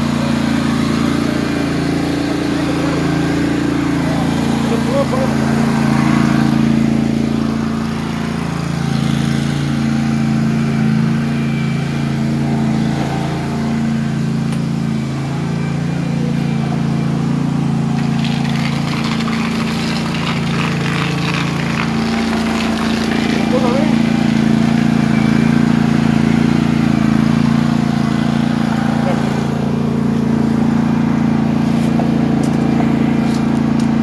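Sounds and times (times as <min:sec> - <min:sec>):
engine humming: 0:00.0 - 0:34.0
rough scraping rattle: 0:00.0 - 0:34.0.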